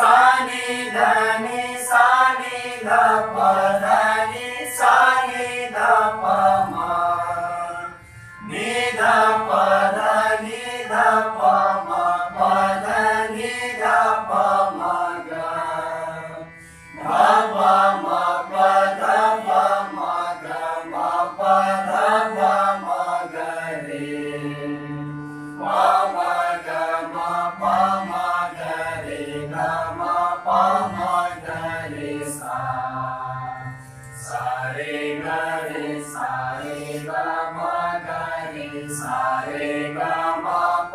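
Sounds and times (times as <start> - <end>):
group singing in unison: 0.0 - 40.9
harmonium: 0.0 - 40.9.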